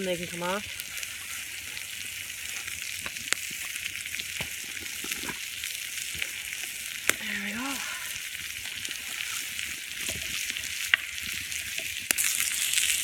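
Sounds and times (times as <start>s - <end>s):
sharp pops and crackles: 0.0s - 13.0s
vegetables sizzling: 0.0s - 13.0s.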